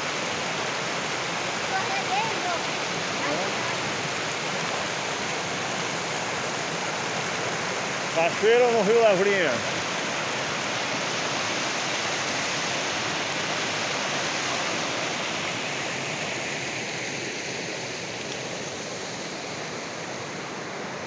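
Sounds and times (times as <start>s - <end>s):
waterfall pouring: 0.0s - 21.0s.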